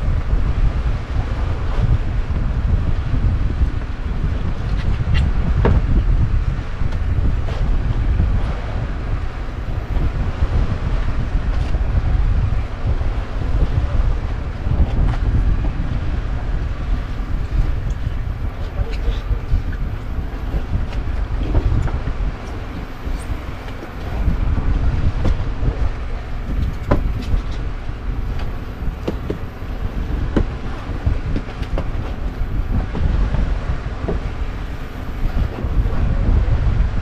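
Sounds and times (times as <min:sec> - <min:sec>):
boat rumble: 0:00.0 - 0:37.0
wind buffeting microphone: 0:00.0 - 0:37.0.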